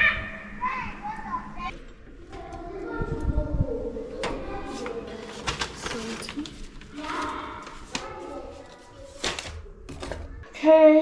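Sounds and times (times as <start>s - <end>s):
children calling and chattering: 0.0s - 11.0s.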